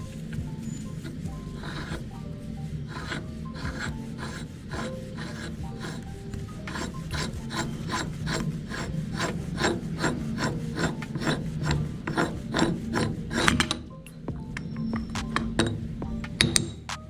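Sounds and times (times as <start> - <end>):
meat grinder scraping: 0.0 - 13.9
low hum: 0.0 - 17.0.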